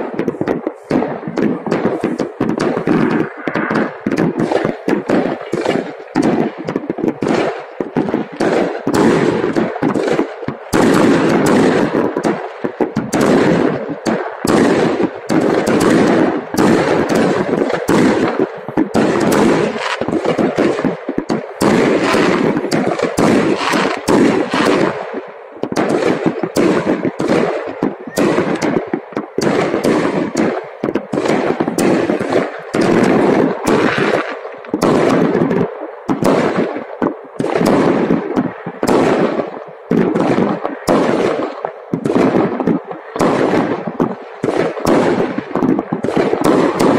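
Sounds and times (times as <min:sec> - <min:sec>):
fireworks bangs and pops: 0:00.0 - 0:46.9.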